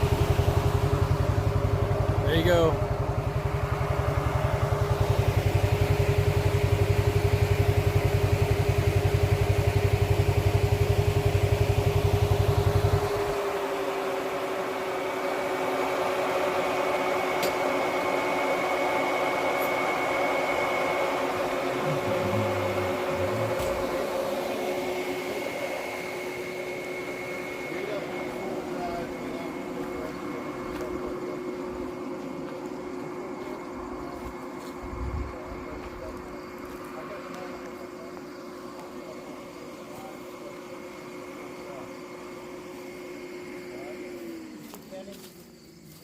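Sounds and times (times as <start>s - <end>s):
engine low throb: 0.0s - 45.0s
engine whine: 0.0s - 46.0s.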